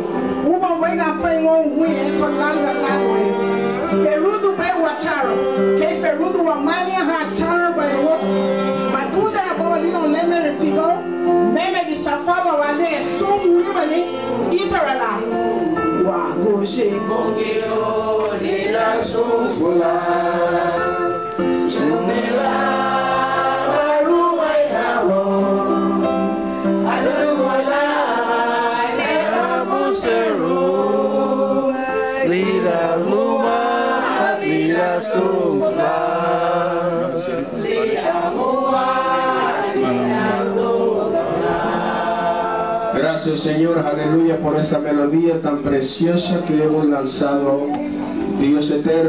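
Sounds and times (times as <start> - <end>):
congregation singing a hymn: 0.0 - 49.0.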